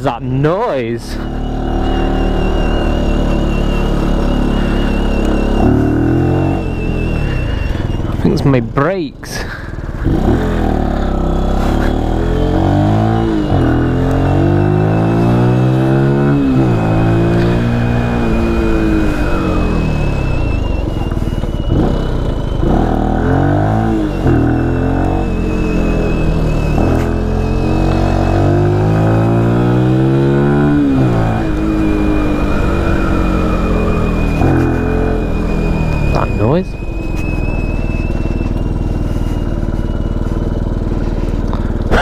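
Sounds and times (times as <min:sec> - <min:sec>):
faint high whistle: 0:00.0 - 0:08.6, 0:10.8 - 0:42.0
motorcycle engine accelerating: 0:00.0 - 0:42.0.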